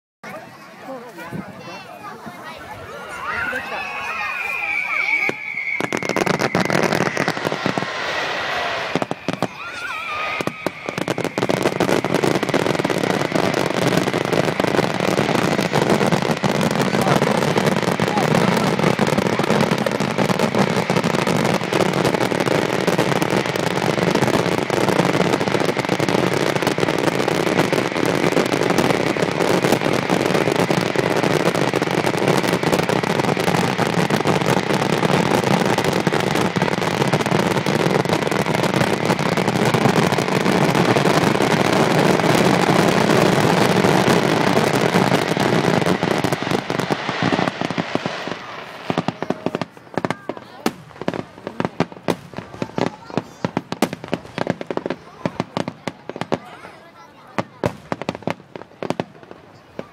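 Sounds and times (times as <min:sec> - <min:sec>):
fireworks bursting and crackling: 0:00.3 - 0:59.9.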